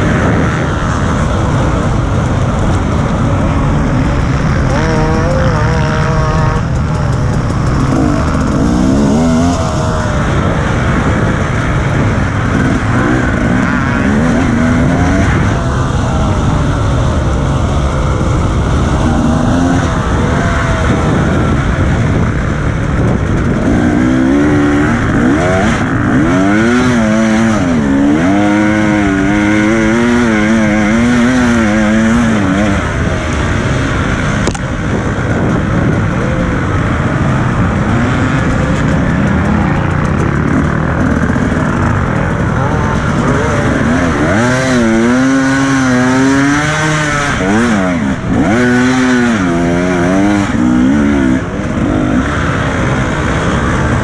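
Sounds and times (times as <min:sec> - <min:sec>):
motorcycle engine revving: 0:00.0 - 0:54.0
wind and riding noise: 0:00.0 - 0:54.0.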